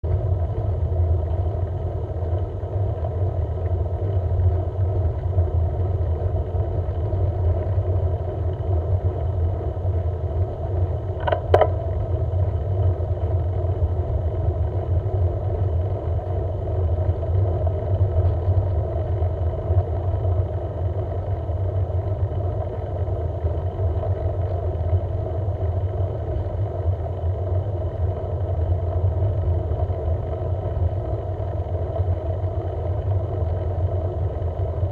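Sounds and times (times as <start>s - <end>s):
road travel rumble: 0.0s - 34.9s.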